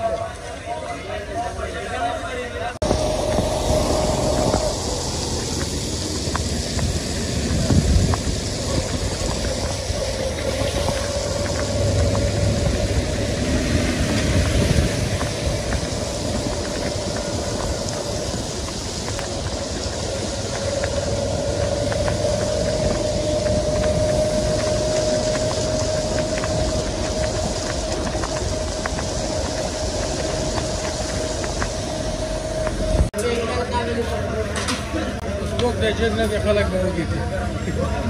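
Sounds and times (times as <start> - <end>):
steady whine: 2.6 - 38.0
tyres hissing on wet asphalt: 2.8 - 34.2.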